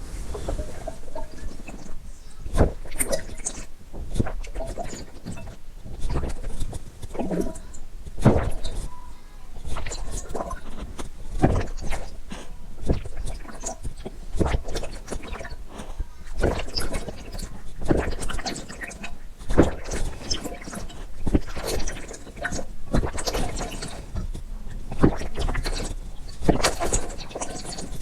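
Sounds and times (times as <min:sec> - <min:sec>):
person gulping water: 0:00.5 - 0:08.9, 0:09.6 - 0:28.0.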